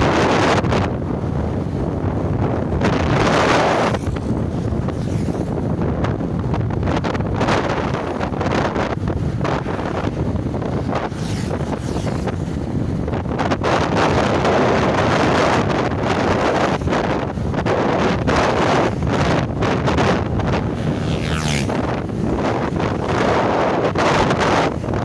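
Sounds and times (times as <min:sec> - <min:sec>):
motorcycle rumble: 0:00.0 - 0:25.0
wind buffeting microphone: 0:00.0 - 0:25.0.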